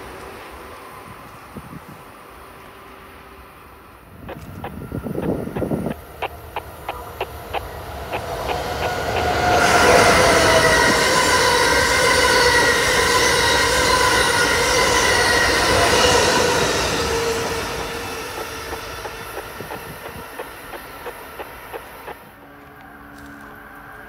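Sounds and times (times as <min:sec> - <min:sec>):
high-speed train passing: 0:00.0 - 0:24.0.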